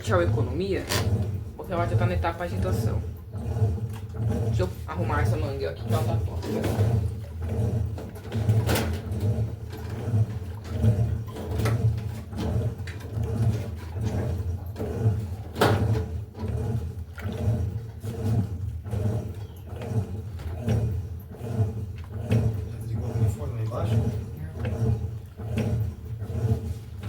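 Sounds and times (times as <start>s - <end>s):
washing machine motor hum: 0.0s - 27.0s
water churning: 0.0s - 27.0s.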